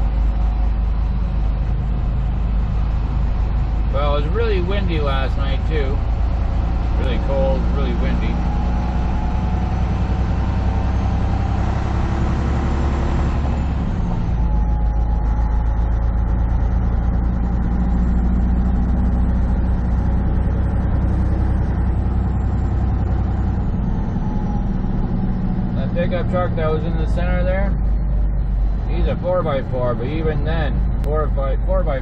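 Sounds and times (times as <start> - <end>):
road noise: 0.0 - 32.0
truck engine droning: 0.0 - 32.0.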